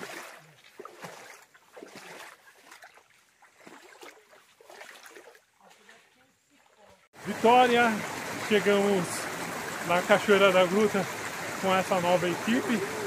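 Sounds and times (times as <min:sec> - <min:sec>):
footsteps wading through water: 0:00.0 - 0:13.0.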